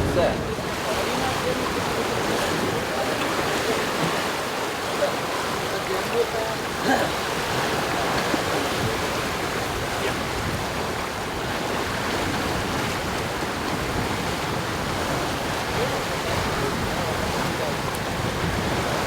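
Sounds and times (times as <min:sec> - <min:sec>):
water rushing past hull: 0:00.0 - 0:19.0
wind: 0:00.0 - 0:19.0.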